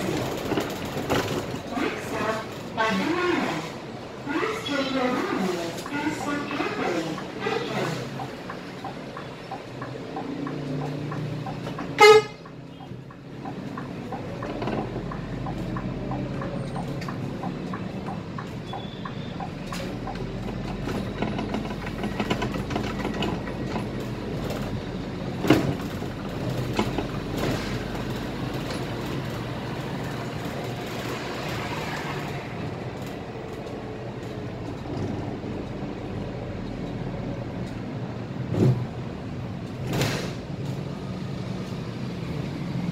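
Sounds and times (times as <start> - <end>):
bus engine and road noise: 0.0 - 42.9.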